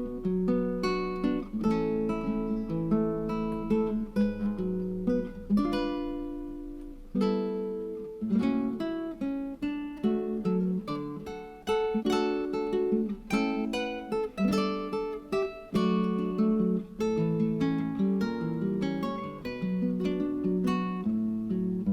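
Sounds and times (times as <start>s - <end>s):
acoustic guitar strumming: 0.0s - 21.9s.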